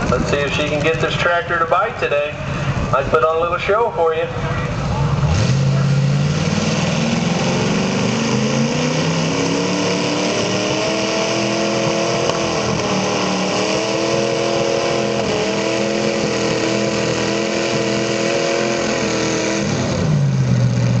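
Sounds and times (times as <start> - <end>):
engine running hard under load: 0.0 - 21.0.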